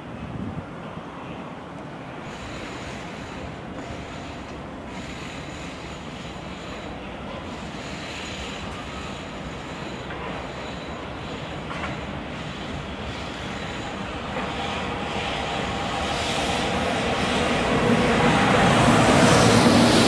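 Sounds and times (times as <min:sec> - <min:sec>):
train running on tracks: 0:00.0 - 0:20.0.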